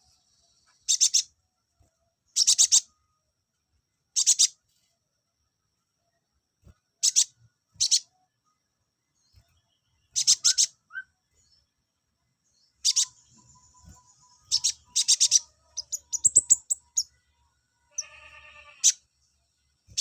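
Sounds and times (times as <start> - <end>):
sunbird high chirps and trills: 0.0 - 3.2, 4.1 - 4.9, 6.1 - 20.0.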